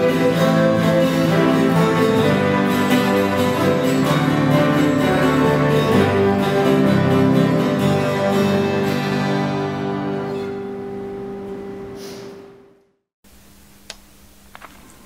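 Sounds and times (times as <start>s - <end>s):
piano: 0.0s - 12.5s
strummed acoustic guitars: 0.0s - 12.7s.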